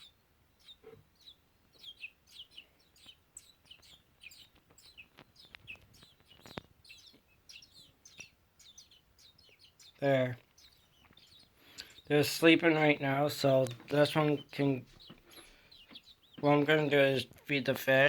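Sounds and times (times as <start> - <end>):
baby birds peeping: 0.0 - 18.0.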